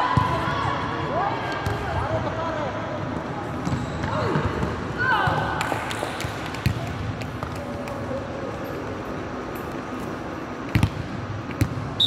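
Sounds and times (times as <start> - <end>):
murmur of gym hall: 0.0 - 12.0.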